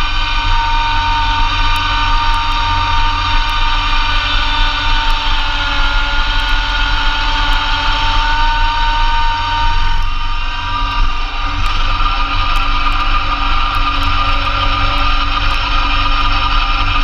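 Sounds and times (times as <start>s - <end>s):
snowblower whine: 0.0s - 17.0s
tractor diesel engine running: 0.0s - 17.0s.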